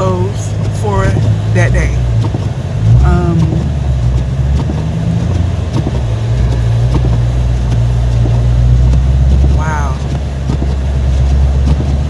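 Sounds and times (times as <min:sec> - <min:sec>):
loud low rumbling drone: 0:00.0 - 0:12.0.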